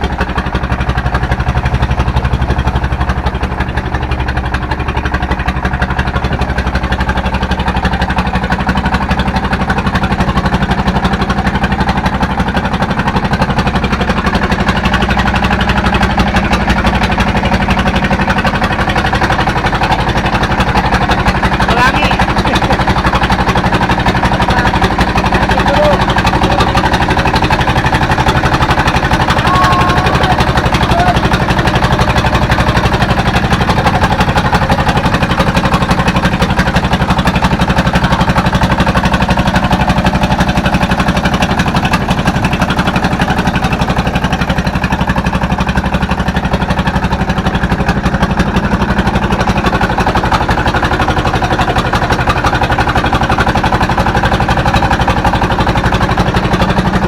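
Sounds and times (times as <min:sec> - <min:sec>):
boat engine thrumming: 0:00.0 - 0:57.0.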